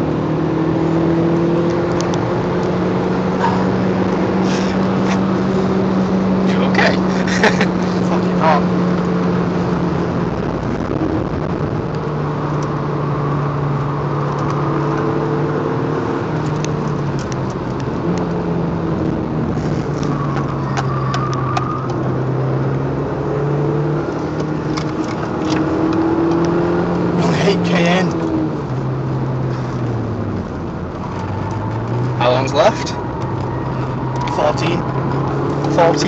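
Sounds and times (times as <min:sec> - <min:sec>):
car engine under load: 0:00.0 - 0:36.0
tyre and road noise: 0:00.0 - 0:36.0.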